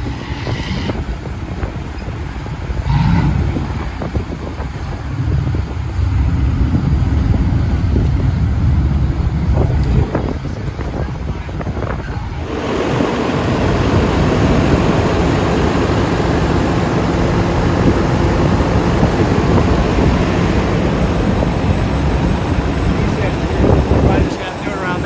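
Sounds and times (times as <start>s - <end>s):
diesel truck engine rumbling: 0.0s - 25.0s
wind buffeting microphone: 0.0s - 25.0s.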